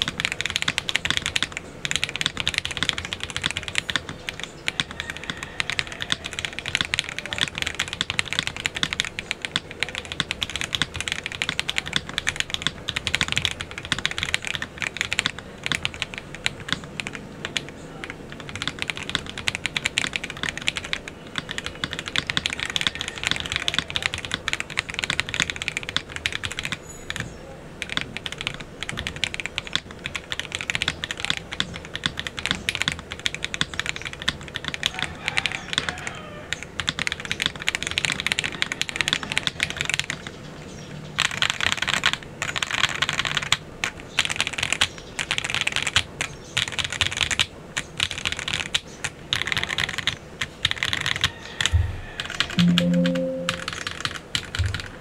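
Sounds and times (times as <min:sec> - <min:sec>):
mechanical keyboard typing: 0:00.0 - 0:40.3, 0:41.2 - 0:55.0.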